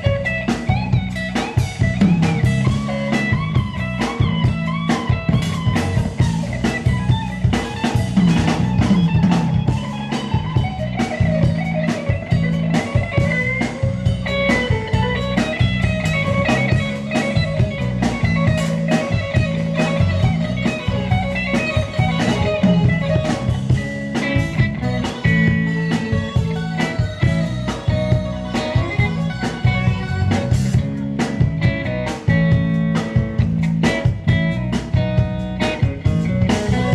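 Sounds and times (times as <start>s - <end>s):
bass guitar: 0.0s - 36.9s
drum kit steady beat: 0.0s - 36.9s
electric guitar lines: 0.0s - 36.9s.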